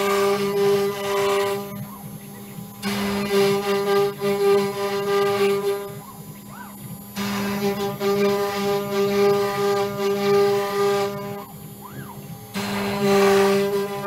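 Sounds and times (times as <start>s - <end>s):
quiet spindle whir: 0.0s - 14.0s
router bit milling wood whine: 0.0s - 14.0s.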